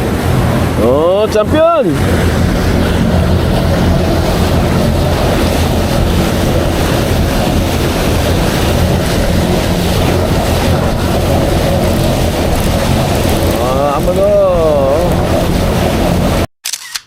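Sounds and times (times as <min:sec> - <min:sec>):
motorboat engine hum: 0:00.0 - 0:16.5
water washing: 0:00.0 - 0:16.5
wind buffeting microphone: 0:00.0 - 0:16.5.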